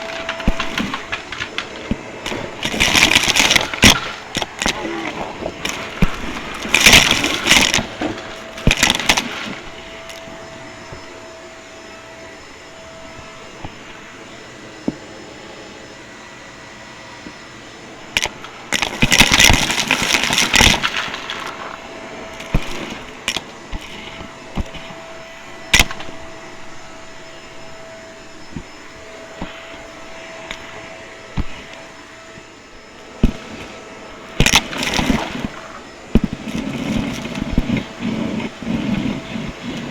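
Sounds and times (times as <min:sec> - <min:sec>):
crackling rattling bursts: 0:00.0 - 0:12.1, 0:18.0 - 0:39.9
vacuum cleaner humming: 0:00.0 - 0:39.9.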